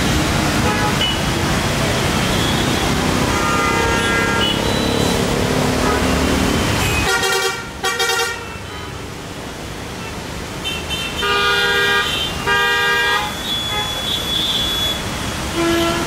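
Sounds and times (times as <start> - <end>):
traffic rumble: 0.0 - 16.0
vehicle horns honking: 0.6 - 1.4, 2.1 - 9.0, 10.0 - 16.0.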